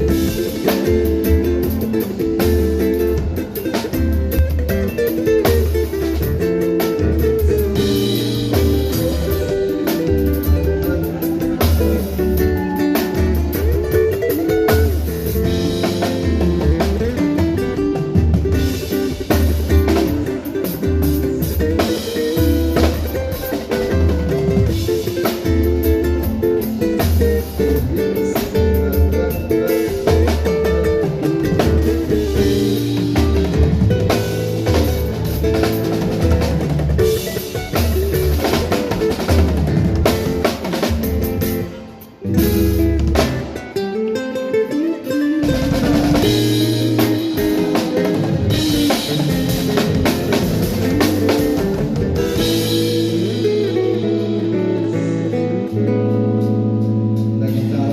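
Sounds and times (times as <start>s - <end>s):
drum kit steady low beat: 0.0s - 43.6s, 45.5s - 57.9s
guitar lines: 0.0s - 57.9s.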